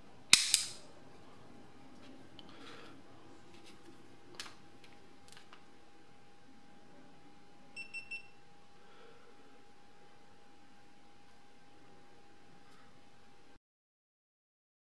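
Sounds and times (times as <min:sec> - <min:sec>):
faint steady hum: 0:00.0 - 0:13.6.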